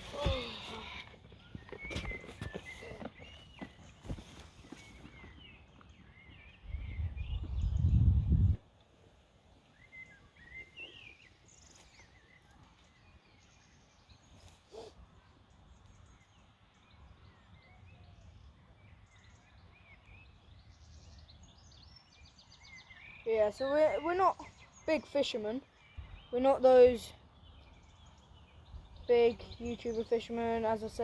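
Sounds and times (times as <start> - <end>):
small birds chirping: 0.0 - 8.6, 9.5 - 31.0.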